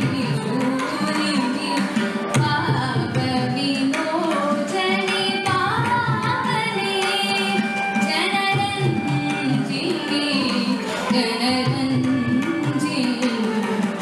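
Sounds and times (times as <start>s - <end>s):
woman singing into microphone: 0.0s - 14.0s.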